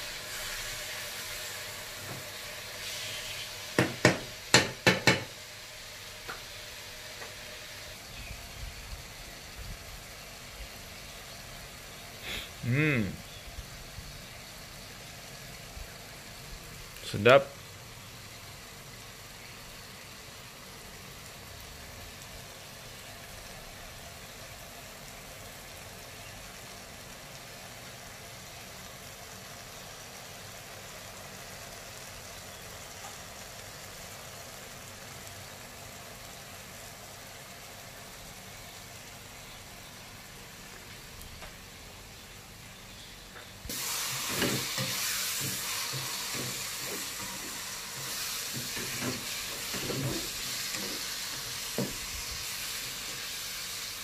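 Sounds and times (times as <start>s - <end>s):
food hissing in hot oil: 0.0s - 54.0s
oil sizzling in a wok: 0.0s - 54.0s.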